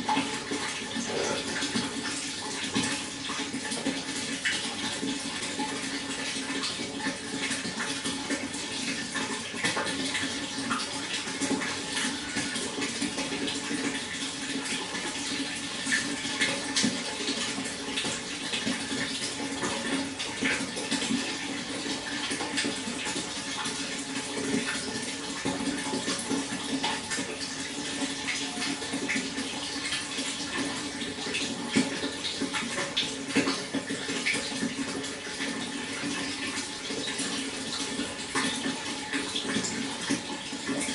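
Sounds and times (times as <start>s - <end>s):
water flowing and splashing: 0.0s - 40.9s.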